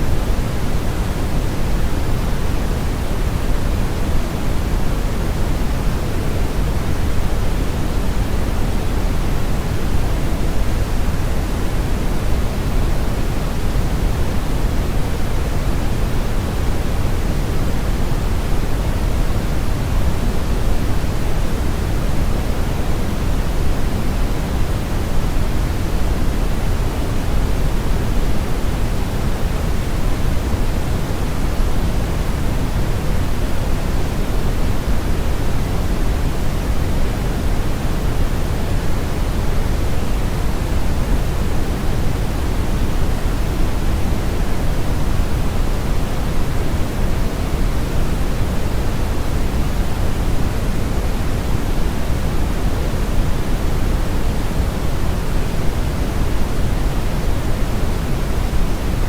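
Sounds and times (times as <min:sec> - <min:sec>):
faint white noise hiss: 0:00.0 - 0:59.0
low rushing brown noise: 0:00.0 - 0:59.0.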